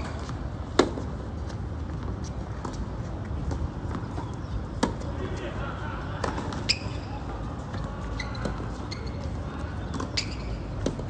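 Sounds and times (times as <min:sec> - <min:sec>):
tennis shoes squeaking: 0:00.0 - 0:11.0.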